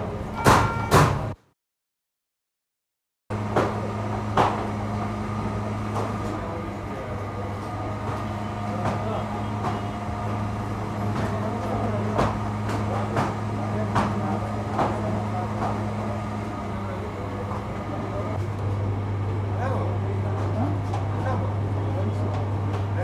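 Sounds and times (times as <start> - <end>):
electric hum of bakery machinery: 3.3 - 23.0.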